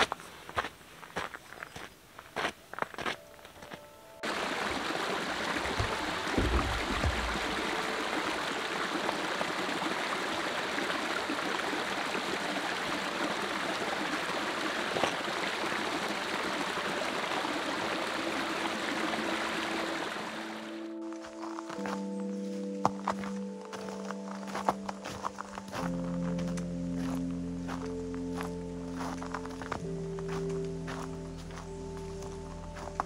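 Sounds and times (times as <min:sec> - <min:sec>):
stream of running water: 0:03.7 - 0:33.0.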